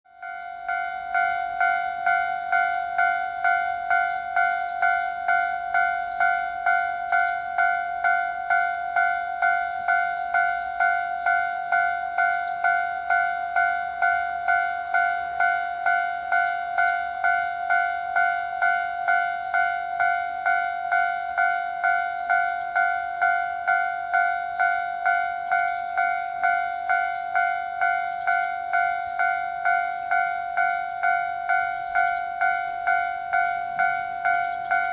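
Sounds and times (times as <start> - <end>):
level-crossing warning bell: 0.1 - 34.9.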